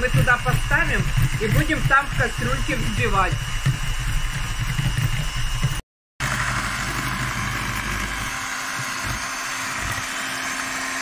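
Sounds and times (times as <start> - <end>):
electric hand mixer whipping: 0.0 - 11.0.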